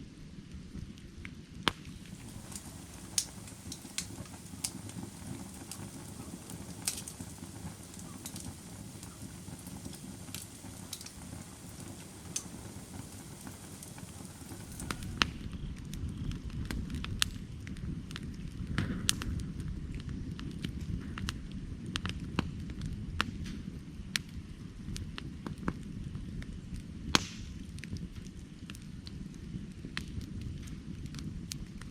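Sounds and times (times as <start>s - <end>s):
low rush of flame: 0.2s - 31.9s
firewood crackling and popping: 0.4s - 31.9s.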